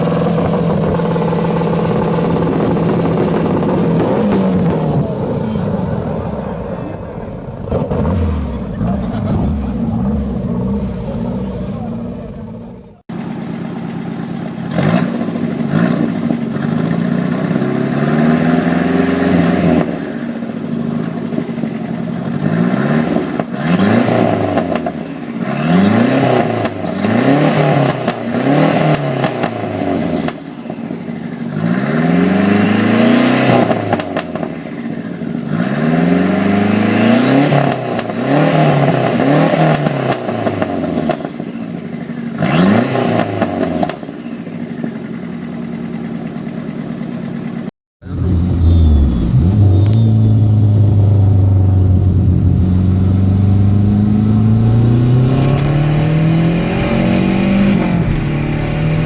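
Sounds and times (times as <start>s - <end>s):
car engine revving: 0.0s - 44.2s, 48.0s - 59.0s.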